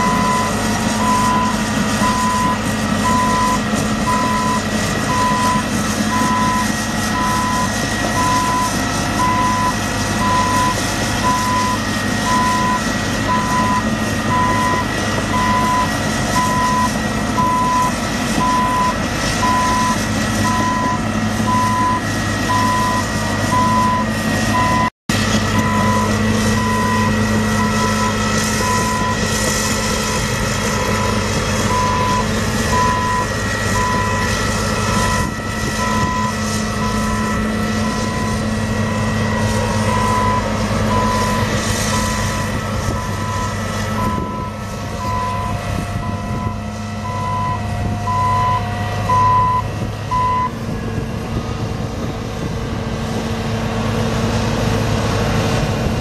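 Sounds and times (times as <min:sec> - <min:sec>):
excavator travel alarm beeping: 0:00.0 - 0:24.9, 0:25.5 - 0:29.2, 0:29.9 - 0:50.6
diesel engine running: 0:00.0 - 0:56.0.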